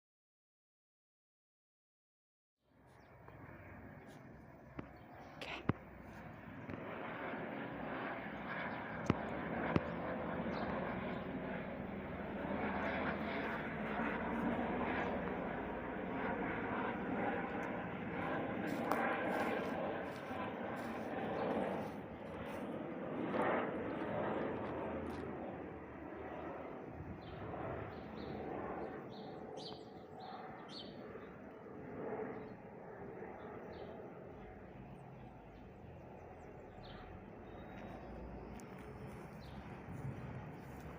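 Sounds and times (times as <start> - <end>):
helicopter engine and rotor: 2.7 - 40.9
birds chirping: 2.9 - 6.7, 8.0 - 16.4, 18.2 - 31.6, 32.2 - 40.9.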